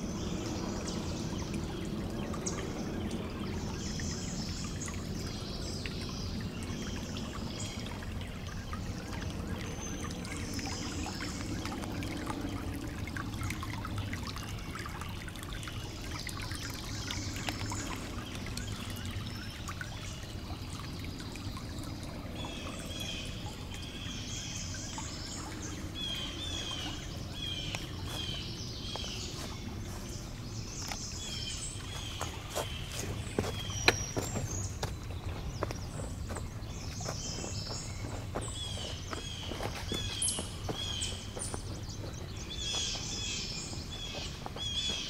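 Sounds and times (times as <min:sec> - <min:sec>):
songbirds singing: 0:00.0 - 0:45.0
stream trickling and burbling: 0:00.0 - 0:45.0.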